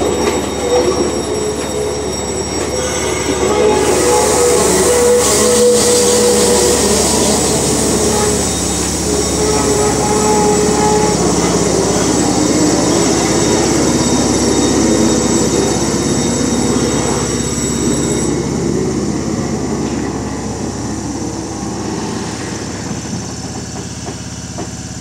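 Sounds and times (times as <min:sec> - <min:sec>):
electric train whine: 0:00.0 - 0:25.0
standing train low hum: 0:00.0 - 0:25.0.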